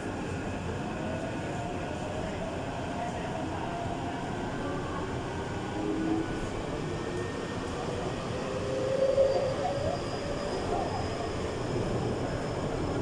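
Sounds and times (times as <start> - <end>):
train rumbling in tunnel: 0.0 - 13.0.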